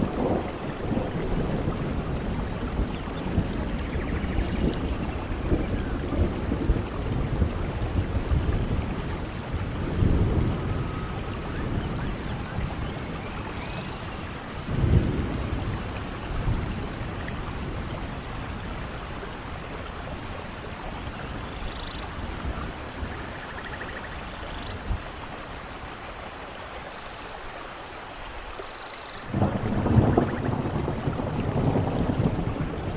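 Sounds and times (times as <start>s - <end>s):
low thunder rumbles: 0.0s - 25.7s, 29.2s - 32.9s
steady rain: 0.0s - 32.9s.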